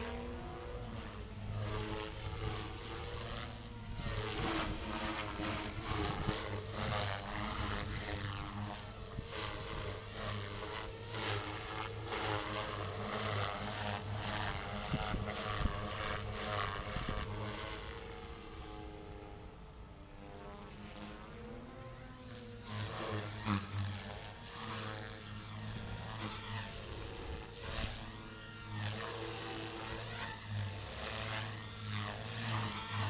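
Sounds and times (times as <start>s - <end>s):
rc helicopter motor whine: 0.0s - 33.0s.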